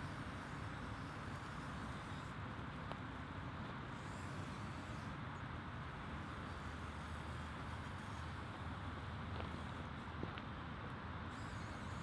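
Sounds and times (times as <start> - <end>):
even outdoor hiss: 0.0 - 12.0.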